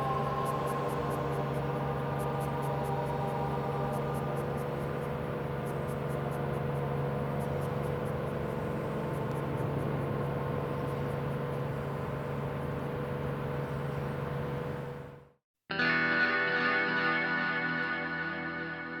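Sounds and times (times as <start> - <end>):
tugboat engine droning: 0.0 - 19.0.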